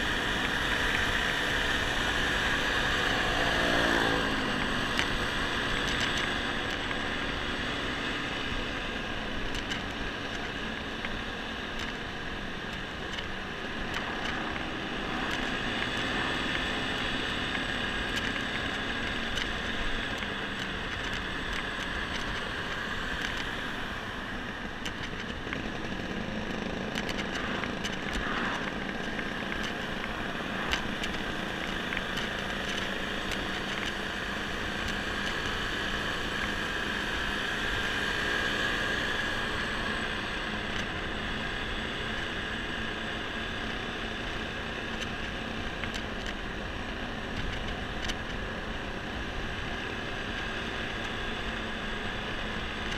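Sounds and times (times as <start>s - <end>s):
scooter engine running: 0.0s - 52.9s
wind and road noise: 0.0s - 52.9s.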